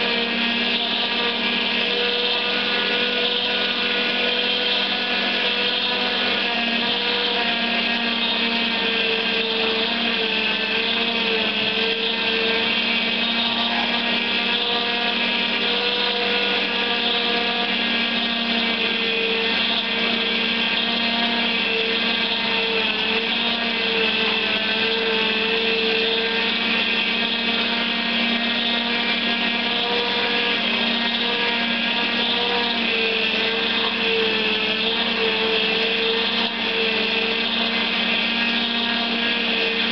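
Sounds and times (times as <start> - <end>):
juicer motor hum: 0.0 - 39.9.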